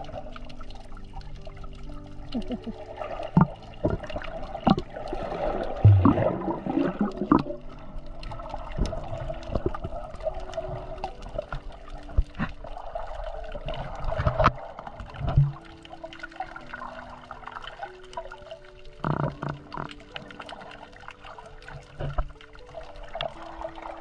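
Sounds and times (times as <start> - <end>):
muffled underwater water movement: 0.0 - 24.0
underwater clicks: 0.0 - 24.0.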